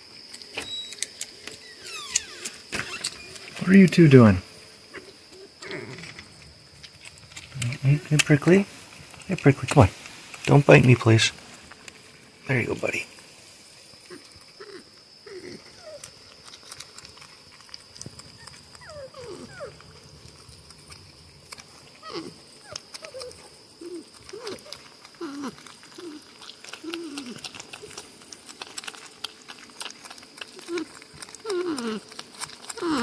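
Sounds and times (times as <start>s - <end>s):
peanuts being chewed: 0.0s - 13.2s, 13.8s - 33.0s
porcupines moaning and whining: 0.7s - 9.8s, 14.0s - 33.0s.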